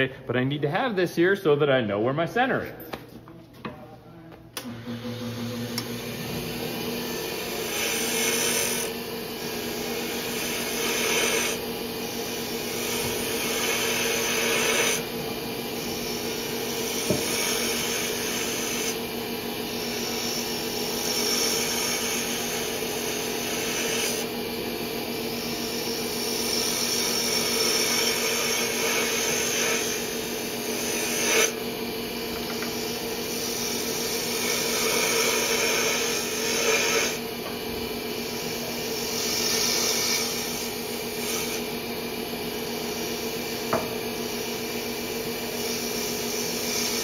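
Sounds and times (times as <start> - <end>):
wood lathe motor hum: 4.6 - 47.0
gouge scraping spinning wood: 5.2 - 41.8, 45.3 - 47.0.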